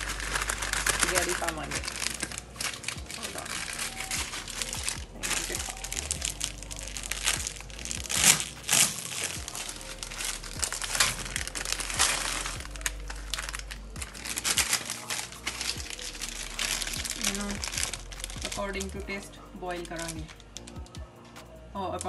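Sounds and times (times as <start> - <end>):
plastic packet crinkling: 0.0 - 21.0.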